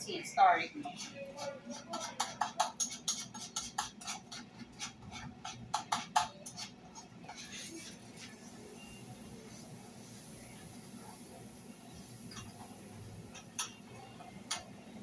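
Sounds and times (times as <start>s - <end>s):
metal spoon scraping a skillet: 0.8s - 14.7s.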